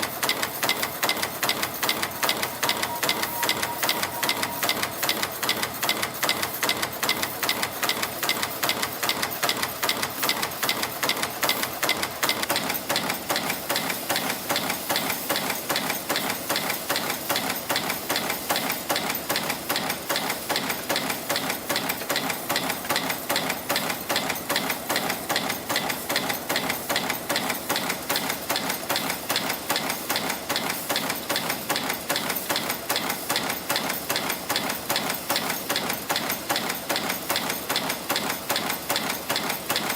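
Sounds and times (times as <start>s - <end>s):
stamping machine clattering: 0.0s - 39.9s.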